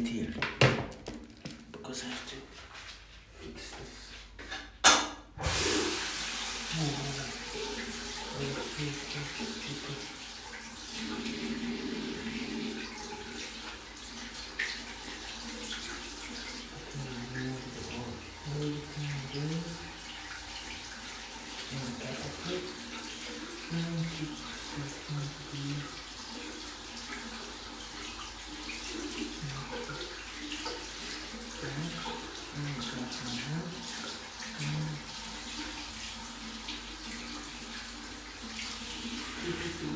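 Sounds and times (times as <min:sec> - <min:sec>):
water running from a tap: 0:05.4 - 0:39.9.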